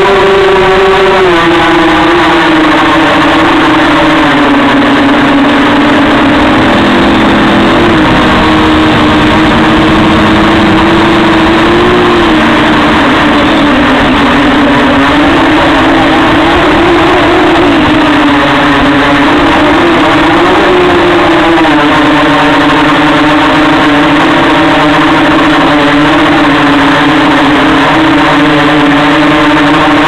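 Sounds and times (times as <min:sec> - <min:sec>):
drone motors buzzing: 0:00.0 - 0:30.0.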